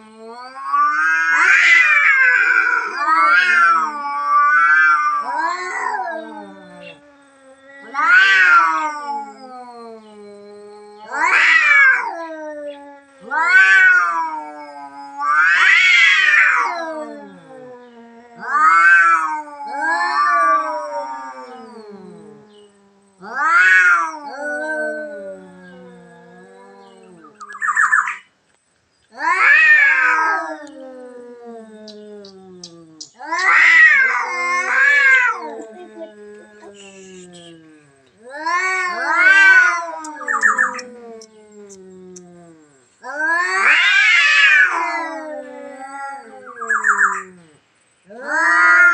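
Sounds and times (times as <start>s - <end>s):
cat low drawn-out moan: 0.0s - 27.5s, 29.1s - 48.9s
cat yowling: 0.0s - 28.3s, 29.1s - 48.9s.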